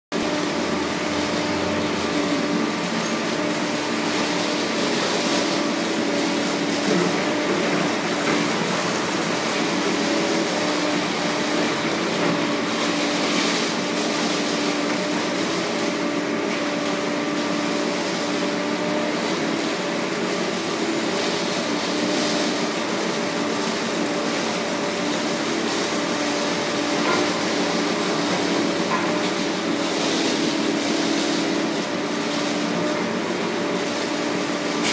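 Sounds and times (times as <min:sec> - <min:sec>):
steady mechanical hum: 0:00.1 - 0:34.9.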